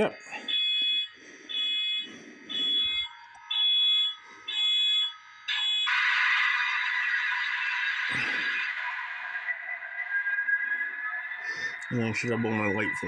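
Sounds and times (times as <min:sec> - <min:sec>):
electronic beeps: 0:00.0 - 0:13.0.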